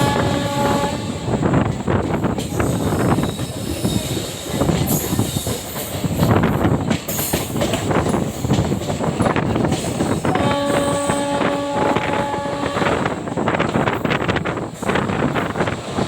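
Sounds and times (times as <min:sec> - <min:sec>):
train coaches rattling rumble: 0:00.0 - 0:16.0.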